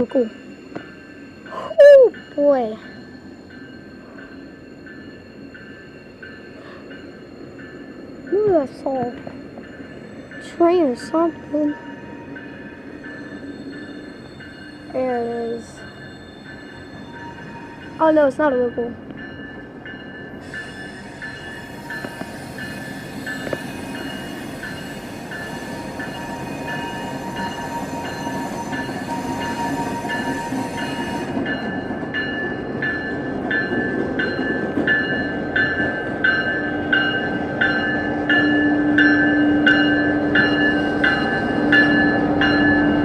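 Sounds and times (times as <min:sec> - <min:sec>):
freight train rumble: 0:00.0 - 0:43.0
railroad crossing bell ringing: 0:00.0 - 0:43.0.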